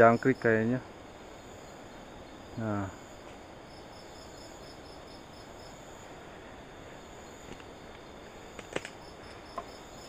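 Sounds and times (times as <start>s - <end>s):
crickets trilling: 0.0s - 10.0s
insect pulsing chirp: 0.0s - 10.0s.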